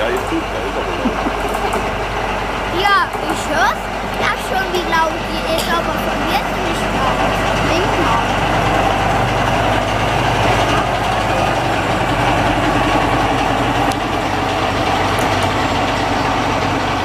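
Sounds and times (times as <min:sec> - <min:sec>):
locomotive diesel engine running: 0:00.0 - 0:17.0.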